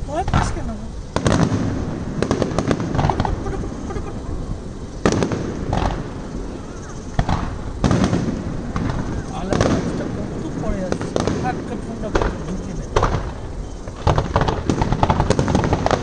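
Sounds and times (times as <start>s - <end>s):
fireworks booming: 0.0s - 16.0s
low rumble: 0.0s - 16.0s.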